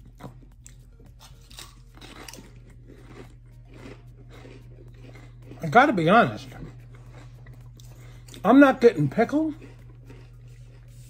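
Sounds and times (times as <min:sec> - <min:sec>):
person chewing crisp chips: 0:00.0 - 0:11.0.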